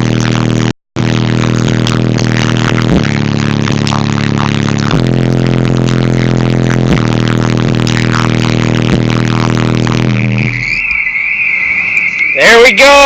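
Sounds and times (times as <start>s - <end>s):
loud bass-heavy car audio music: 0.0s - 13.0s.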